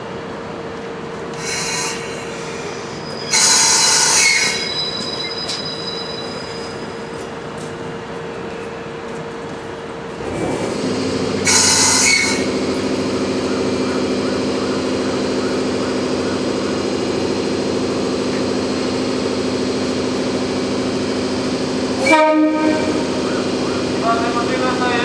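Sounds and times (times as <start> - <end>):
electric locomotive humming: 0.0 - 25.0.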